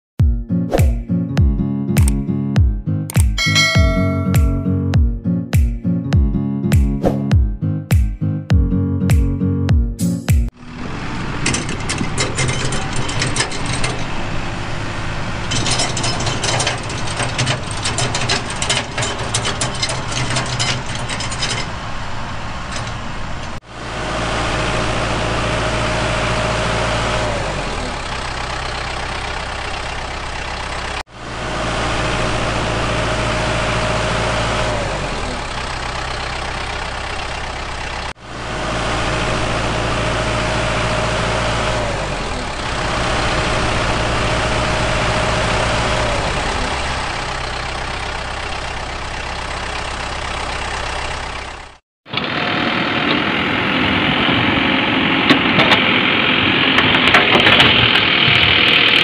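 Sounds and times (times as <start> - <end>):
vehicle engine idling: 3.4 - 5.0, 10.5 - 59.0.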